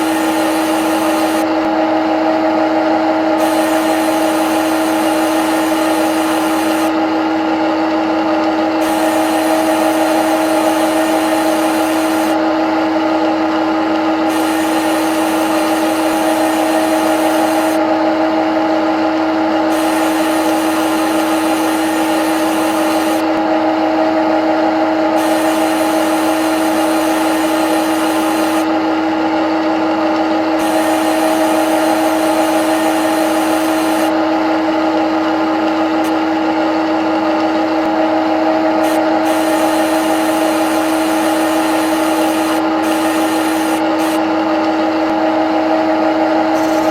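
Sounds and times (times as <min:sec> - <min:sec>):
lathe running with steady whine: 0:00.0 - 0:46.9.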